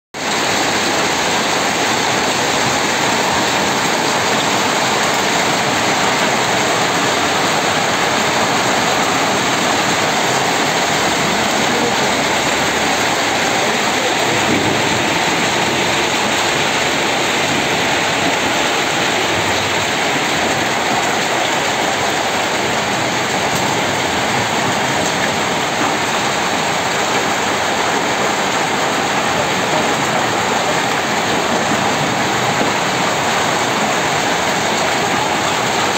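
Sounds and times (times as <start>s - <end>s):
hail pelting the ground: 0.2s - 35.9s.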